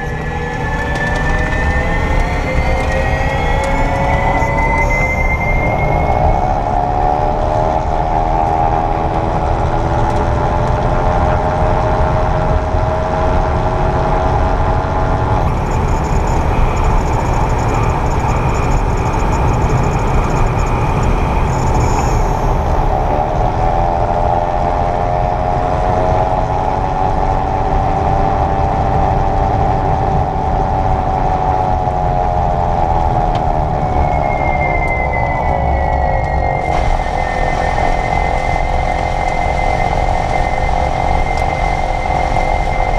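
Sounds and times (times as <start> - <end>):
electric drivetrain whine: 0.0 - 42.9
road rumble: 0.0 - 42.9.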